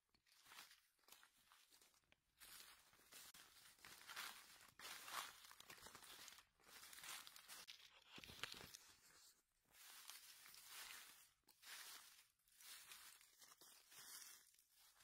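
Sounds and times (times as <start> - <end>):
dry leaves rustling: 0.3 - 15.0.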